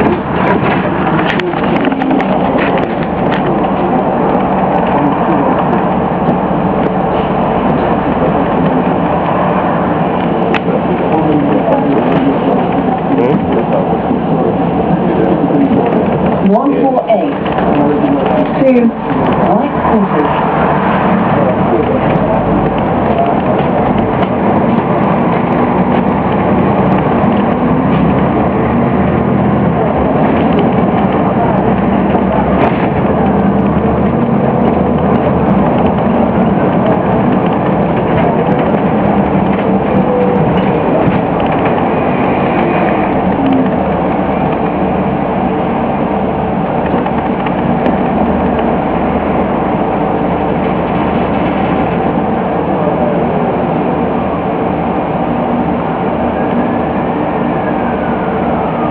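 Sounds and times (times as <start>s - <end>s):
bus diesel engine running: 0.0s - 58.9s.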